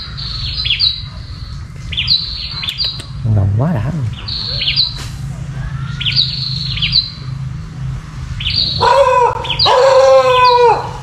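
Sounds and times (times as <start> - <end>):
low steady hum: 0.0 - 8.8
small birds chirping: 0.0 - 10.8.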